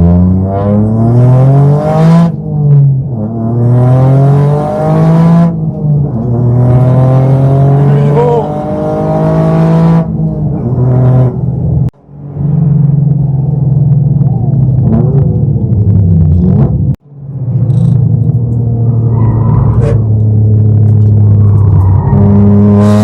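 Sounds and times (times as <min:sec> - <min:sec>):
car engine accelerating through gears: 0:00.0 - 0:23.0.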